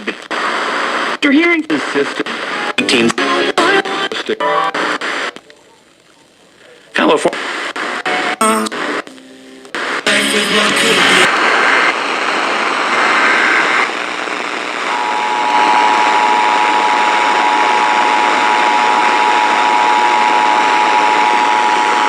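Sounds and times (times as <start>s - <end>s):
radio static: 0.0s - 22.0s.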